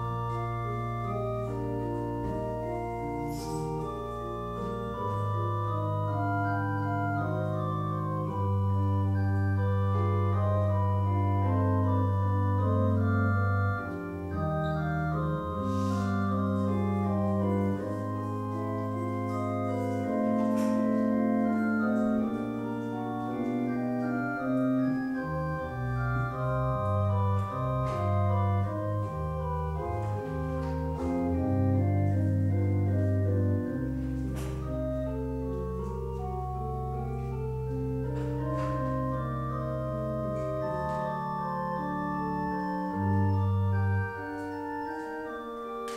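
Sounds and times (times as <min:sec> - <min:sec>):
church organ playing chords: 0:00.0 - 0:45.9.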